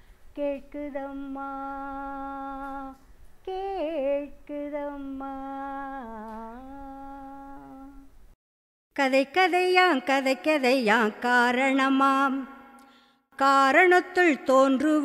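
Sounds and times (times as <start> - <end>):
woman singing unaccompanied: 0.3 - 8.2, 9.0 - 12.6, 13.4 - 15.0.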